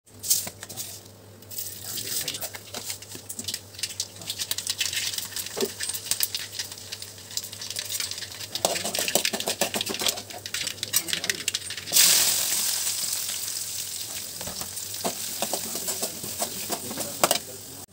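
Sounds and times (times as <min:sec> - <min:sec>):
hot oil crackling and popping: 0:01.6 - 0:17.9.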